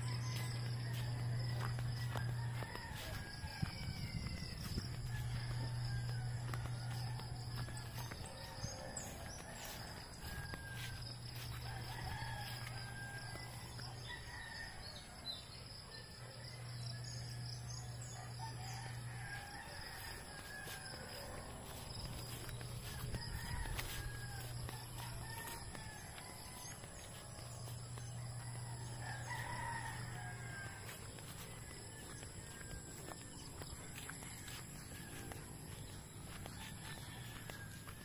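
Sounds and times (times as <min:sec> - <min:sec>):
roosters crowing: 0:00.0 - 0:38.0.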